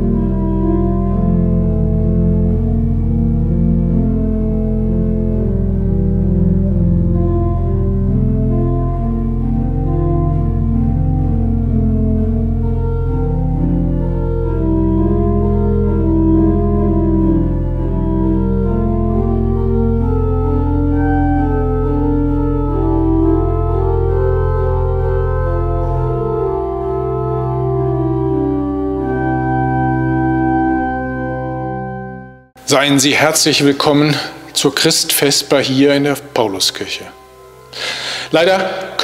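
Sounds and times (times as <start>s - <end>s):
church organ playing: 0.0s - 39.0s.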